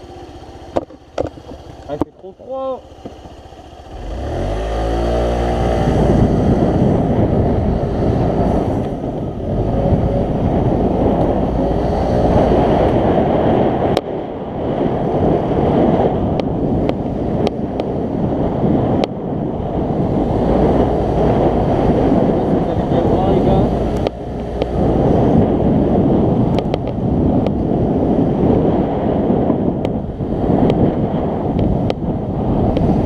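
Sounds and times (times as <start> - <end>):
scooter engine revving: 0.0 - 13.9, 15.7 - 33.0
wind rushing over microphone: 0.0 - 33.0.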